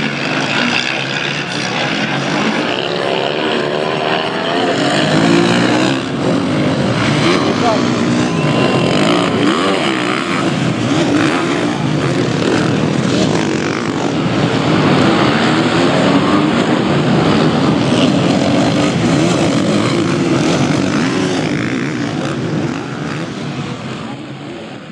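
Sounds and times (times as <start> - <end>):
motorcycle engines revving: 0.0 - 24.9.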